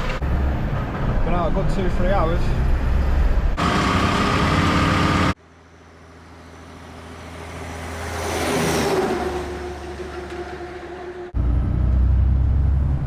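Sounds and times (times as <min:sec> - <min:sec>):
lorry engine and road noise: 0:00.0 - 0:13.0
vehicle approaching: 0:00.0 - 0:13.0.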